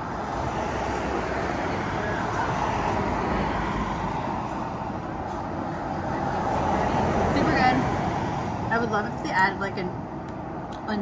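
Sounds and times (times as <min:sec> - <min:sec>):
highway traffic road noise: 0:00.0 - 0:11.0.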